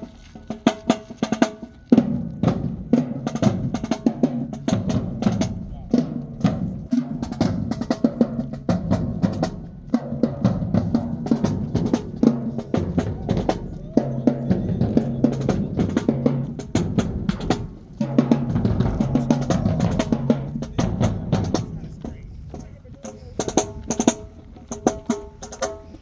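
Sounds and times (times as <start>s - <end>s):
bass drums: 0.0s - 26.0s.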